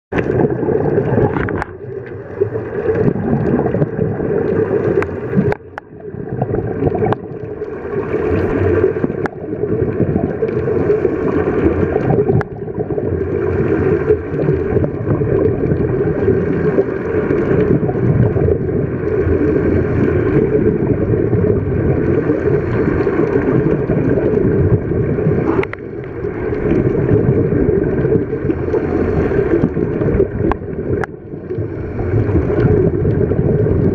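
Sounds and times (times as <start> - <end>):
underwater regulator bubbles: 0.1 - 33.9.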